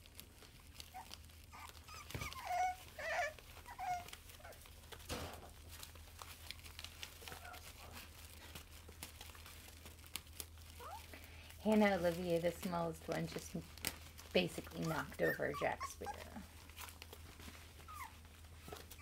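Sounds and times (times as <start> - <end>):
newspaper crinkling: 0.0 - 19.0
puppies yelping and whining: 0.1 - 11.1, 14.1 - 19.0.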